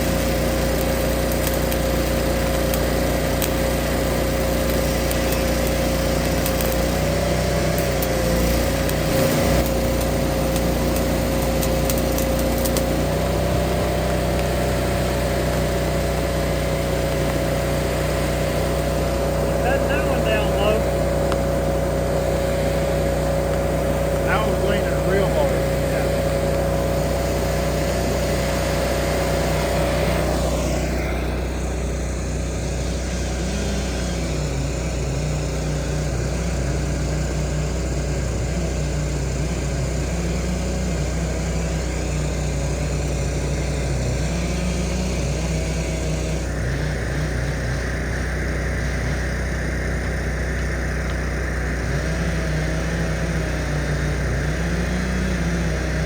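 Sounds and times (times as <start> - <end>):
heavy equipment engine running: 0.0 - 56.0.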